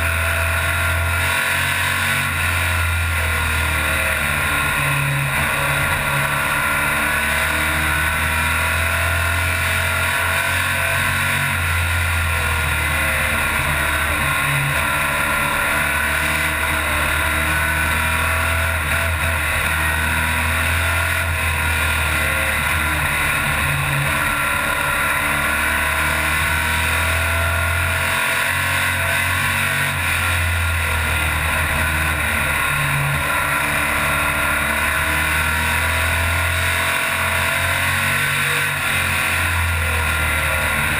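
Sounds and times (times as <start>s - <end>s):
race car engine running hard: 0.0s - 40.9s
road noise: 0.0s - 40.9s.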